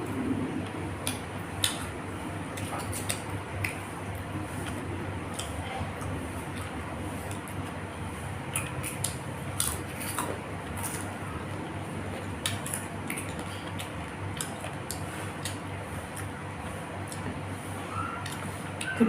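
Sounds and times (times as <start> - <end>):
low steady hum: 0.0 - 19.0
chewing crunches: 0.4 - 17.4.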